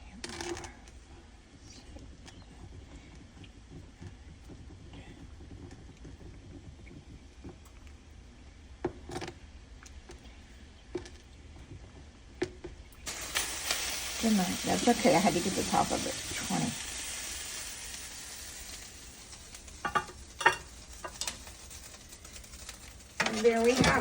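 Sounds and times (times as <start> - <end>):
room hum: 0.0 - 24.0.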